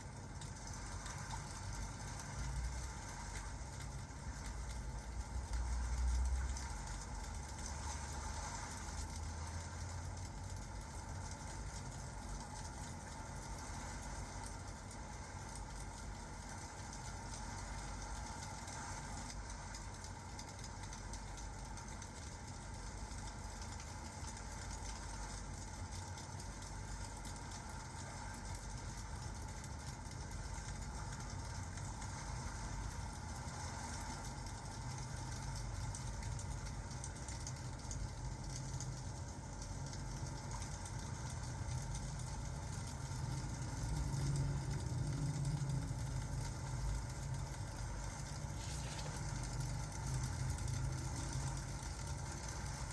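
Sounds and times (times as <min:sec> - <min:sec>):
fireplace crackling: 0:00.0 - 0:52.9
rain hiss: 0:00.0 - 0:52.9.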